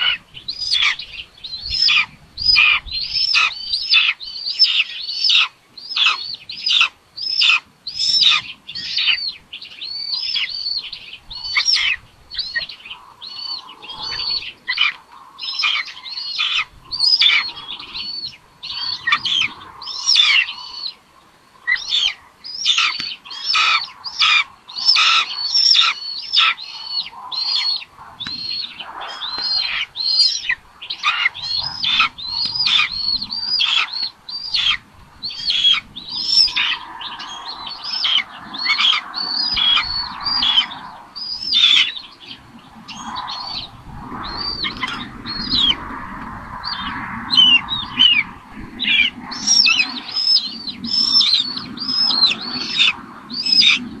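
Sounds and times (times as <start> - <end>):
nestlings begging calls: 0.0 - 21.0, 21.6 - 46.0, 46.6 - 54.0.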